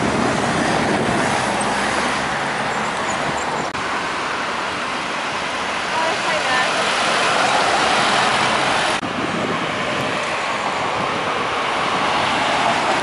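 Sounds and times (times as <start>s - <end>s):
car passing close: 0.0s - 13.0s
steady traffic noise: 0.0s - 13.0s.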